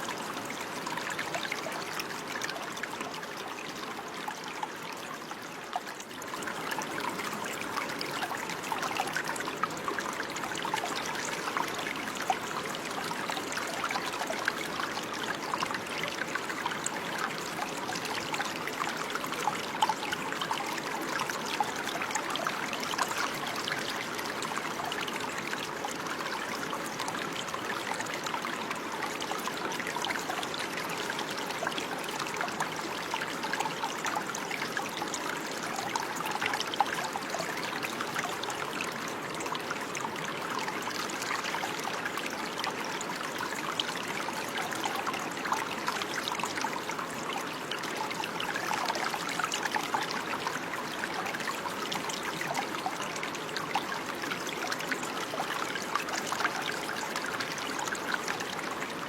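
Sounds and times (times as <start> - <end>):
running water babbling: 0.0 - 59.0.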